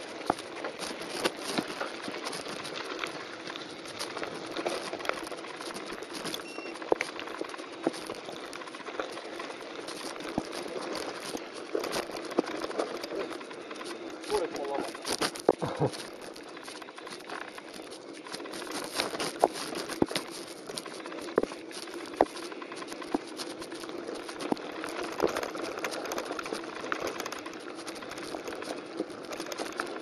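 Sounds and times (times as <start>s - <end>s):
bike rattling and clicking: 0.0s - 30.0s
bike tyres crunching over gravel: 0.0s - 30.0s.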